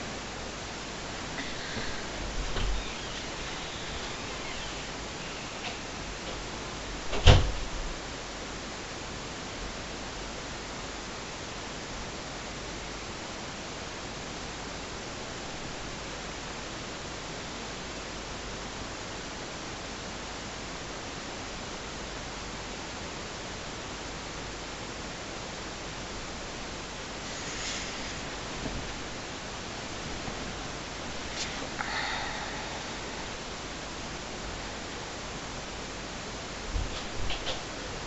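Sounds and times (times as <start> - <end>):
microphone hiss: 0.0 - 38.0.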